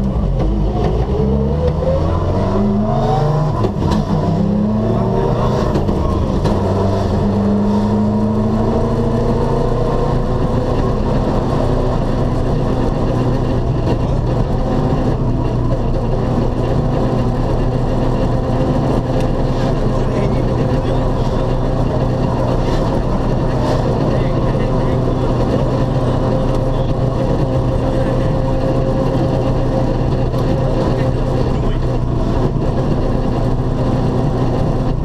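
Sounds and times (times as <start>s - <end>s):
car engine running from inside: 0.0s - 35.0s.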